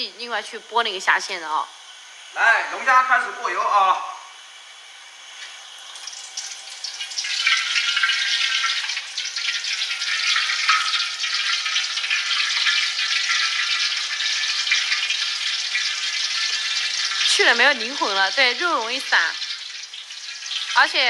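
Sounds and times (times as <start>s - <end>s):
crayfish sizzling in hot oil: 0.0s - 2.4s, 3.4s - 21.0s.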